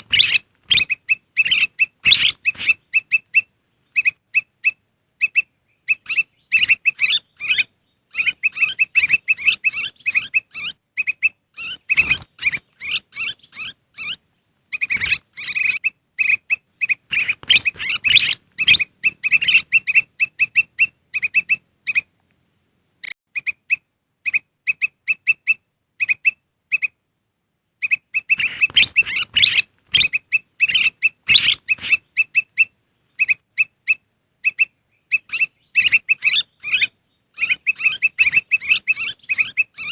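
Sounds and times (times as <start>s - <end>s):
bird chirping rapidly: 0.0s - 22.2s, 27.8s - 39.9s.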